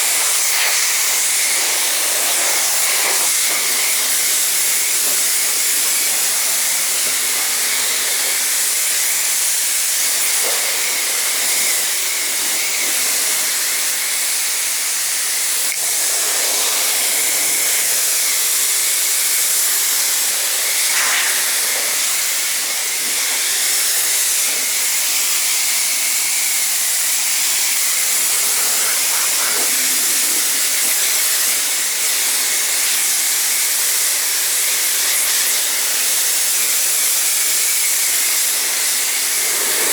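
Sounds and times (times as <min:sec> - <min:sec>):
pressure washer jet hiss: 0:00.0 - 0:39.9.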